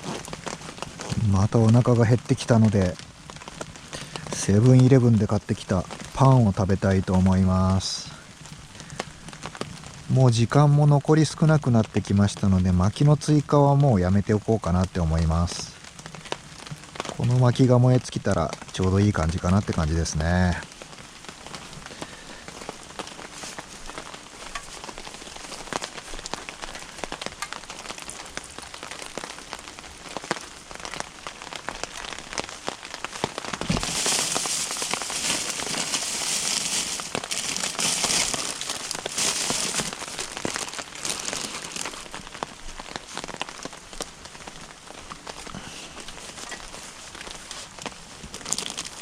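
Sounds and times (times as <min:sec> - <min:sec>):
firewood crackling and popping: 0:00.0 - 0:49.0.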